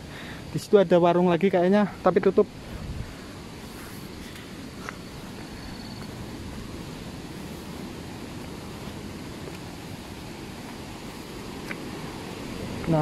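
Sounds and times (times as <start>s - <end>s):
waterfall and river rushing: 2.4s - 13.0s.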